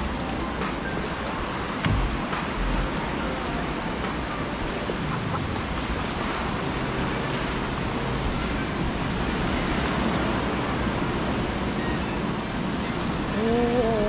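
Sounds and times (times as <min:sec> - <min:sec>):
sea surf breaking: 0:00.0 - 0:14.0
wind on microphone: 0:00.0 - 0:14.0.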